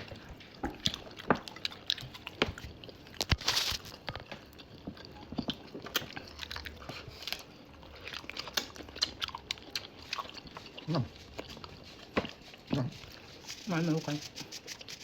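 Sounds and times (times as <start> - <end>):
chewing and biting: 0.0 - 13.5.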